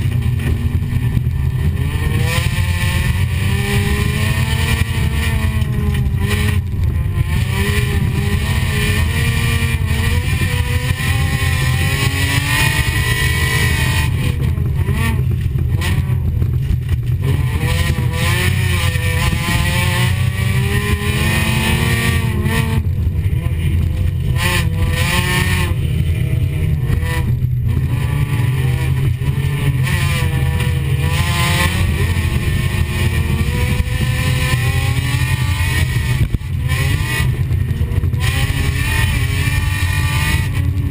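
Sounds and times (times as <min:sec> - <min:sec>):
car engine revving through gears: 0:00.0 - 0:40.9
low rumble of car under way: 0:00.0 - 0:40.9.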